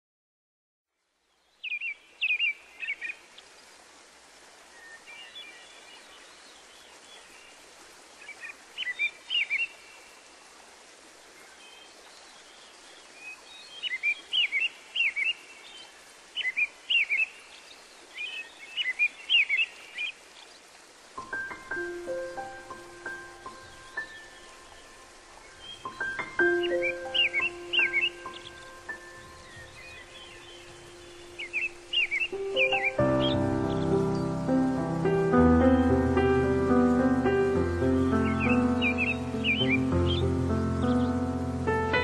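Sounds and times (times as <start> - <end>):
songbirds chirping: 1.0 - 42.0
steady background hiss: 1.0 - 42.0.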